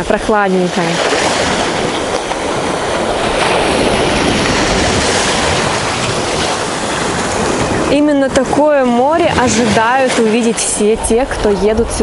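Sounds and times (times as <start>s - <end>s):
small waves washing onto shore: 0.0s - 12.0s.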